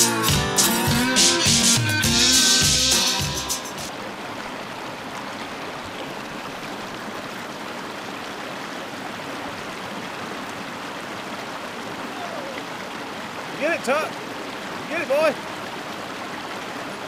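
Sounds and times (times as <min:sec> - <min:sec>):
creek water rushing over stones: 0:03.2 - 0:17.0.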